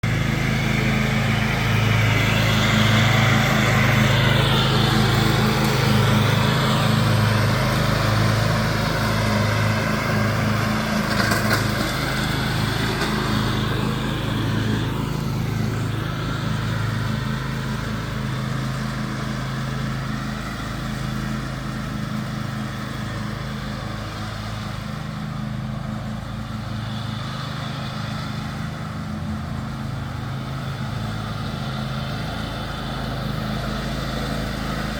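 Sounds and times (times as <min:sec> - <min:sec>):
mower blade deck whirring: 0:00.0 - 0:34.9
riding mower engine running: 0:00.0 - 0:34.9.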